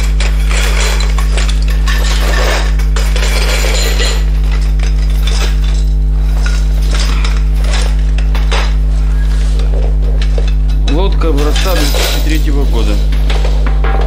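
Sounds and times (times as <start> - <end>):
loud steady low hum: 0.0 - 14.0
metal tubes clinking: 0.0 - 14.0.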